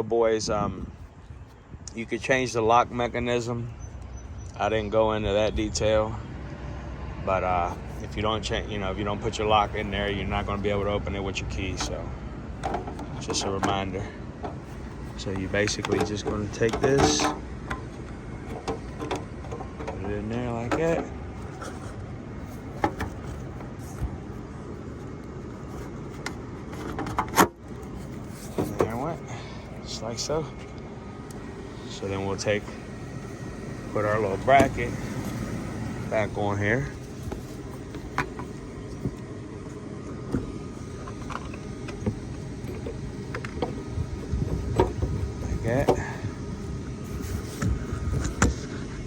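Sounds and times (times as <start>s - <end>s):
steady low rumble: 0.0s - 49.0s.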